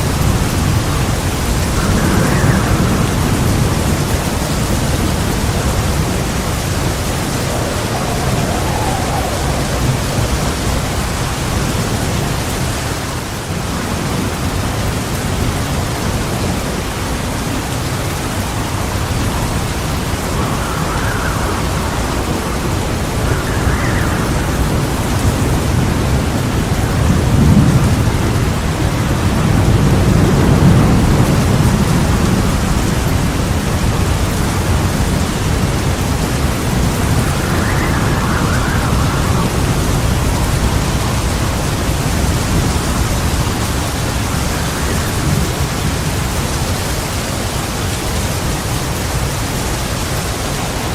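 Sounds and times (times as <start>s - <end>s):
rolling thunder rumbling: 0.0s - 49.3s
heavy rain falling: 0.0s - 50.9s.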